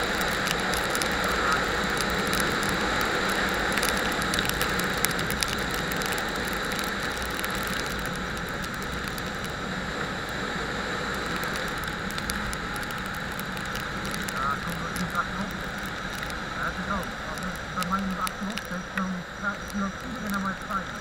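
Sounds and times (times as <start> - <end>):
motorcycle engine drone: 0.0 - 21.0.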